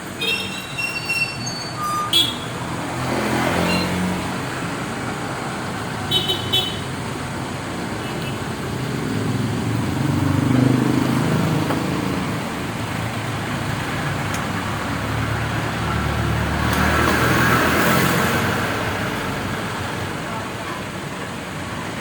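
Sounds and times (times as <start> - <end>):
road traffic going by: 0.0 - 22.0.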